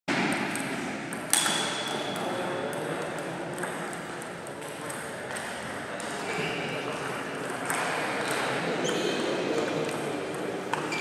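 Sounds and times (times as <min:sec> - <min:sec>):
steady hall hum: 0:00.1 - 0:11.0.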